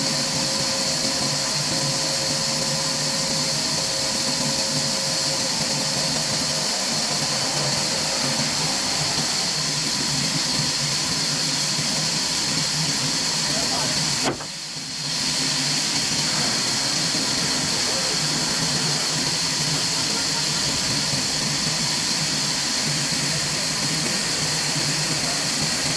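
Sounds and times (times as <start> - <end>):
machinery noise with hiss: 0.0 - 25.9.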